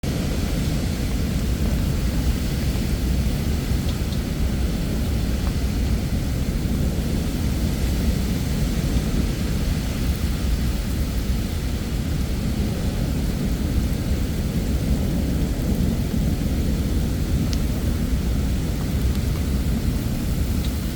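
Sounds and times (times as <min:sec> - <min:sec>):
heavy rain falling: 0:00.0 - 0:20.9
low thunder rumble: 0:00.0 - 0:20.9.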